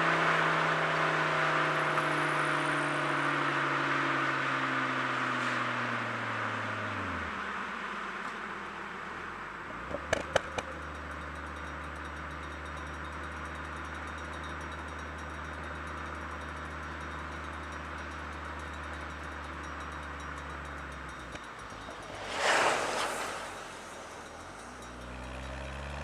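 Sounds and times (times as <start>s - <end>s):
engine and exhaust droning: 0.0s - 26.0s.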